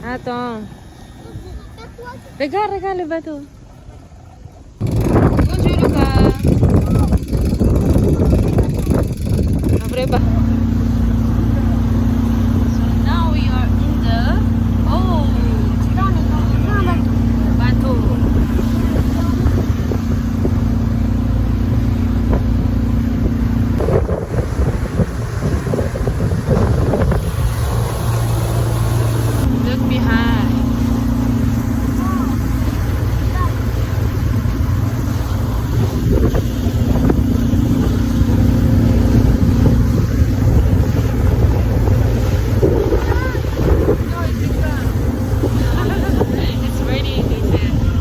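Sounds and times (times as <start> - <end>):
motorboat engine humming: 0.0 - 48.0
wind buffeting microphone: 0.0 - 48.0.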